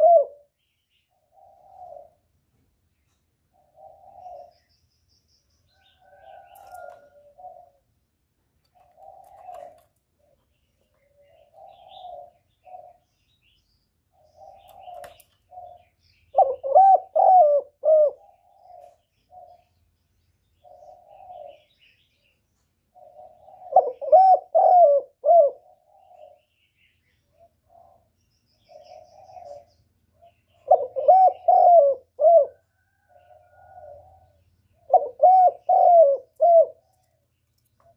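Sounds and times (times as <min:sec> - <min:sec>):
dove cooing: 0:00.0 - 0:02.4, 0:03.5 - 0:04.7, 0:05.7 - 0:08.0, 0:08.6 - 0:13.2, 0:14.1 - 0:19.8, 0:20.6 - 0:22.0, 0:22.9 - 0:26.6, 0:27.2 - 0:37.1.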